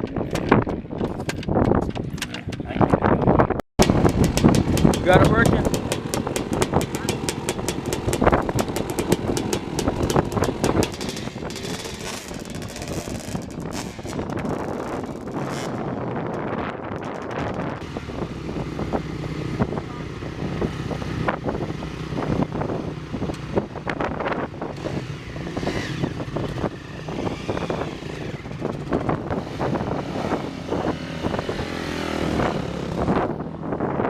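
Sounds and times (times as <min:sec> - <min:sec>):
dirt bike engine running: 0:03.8 - 0:33.9.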